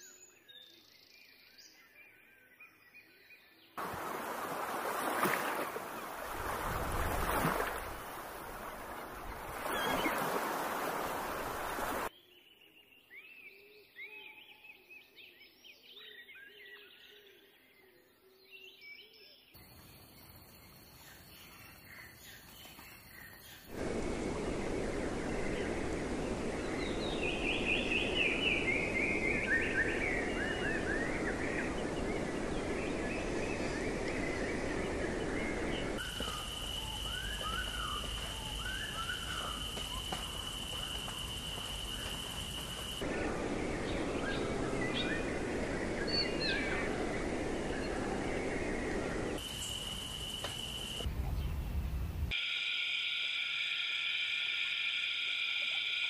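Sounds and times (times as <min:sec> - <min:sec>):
songbirds chirping: 0:00.0 - 0:52.3.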